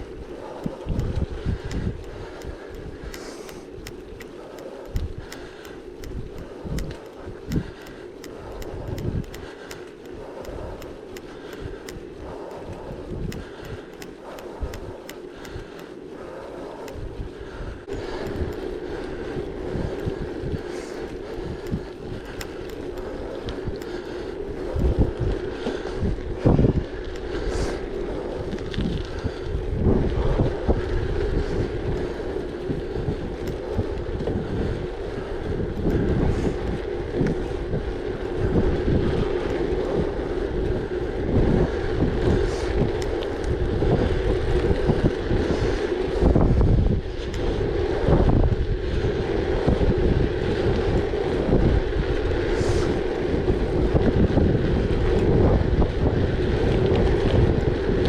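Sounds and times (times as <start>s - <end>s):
bike tyres rolling on rough track: 0.0s - 58.0s
wind buffeting microphone: 0.0s - 58.0s.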